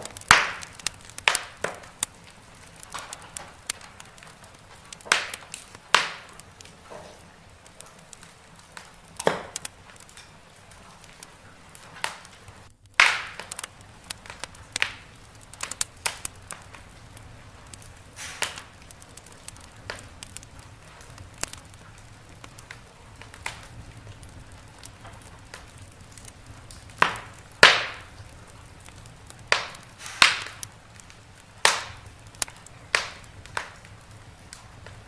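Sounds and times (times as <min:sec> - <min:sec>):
fire popping and snapping: 0:00.0 - 0:35.0
low steady hiss: 0:00.0 - 0:35.0
wood fire crackling: 0:00.0 - 0:35.0.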